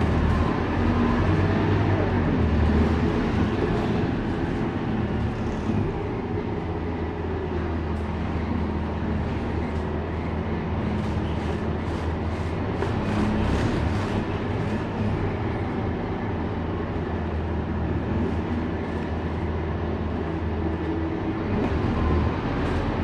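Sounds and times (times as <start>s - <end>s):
bus diesel engine drone: 0.0s - 23.0s
road and body noise: 0.0s - 23.0s.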